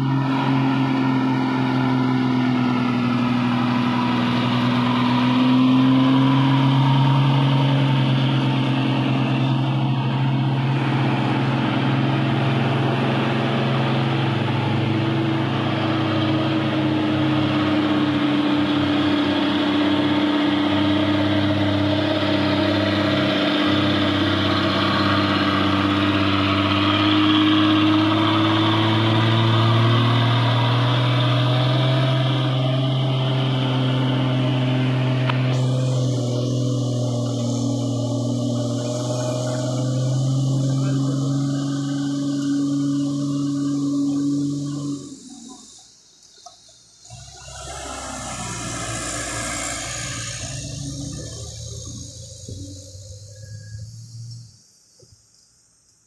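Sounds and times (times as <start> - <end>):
diesel truck engines labouring: 0.0 - 54.6.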